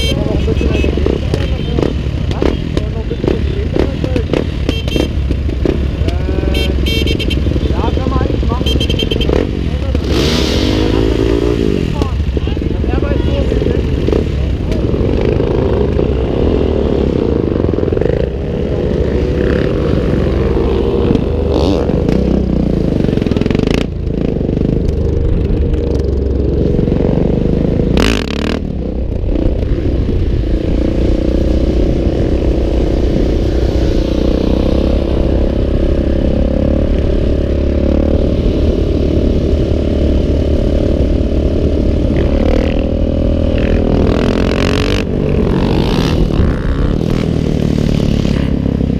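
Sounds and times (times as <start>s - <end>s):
motorcycle engine revving: 0.0s - 48.9s
low wind rumble: 5.2s - 48.9s.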